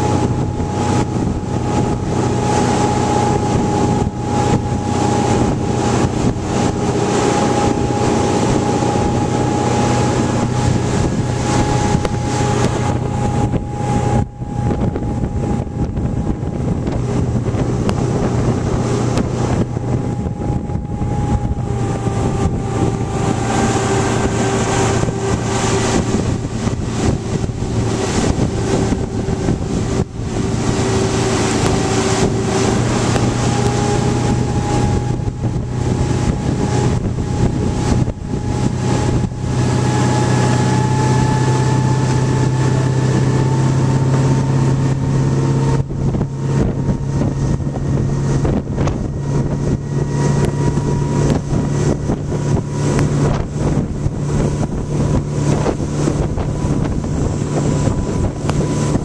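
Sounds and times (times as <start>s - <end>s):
boat engine running: 0.0s - 59.0s
wind buffeting microphone: 0.0s - 59.0s.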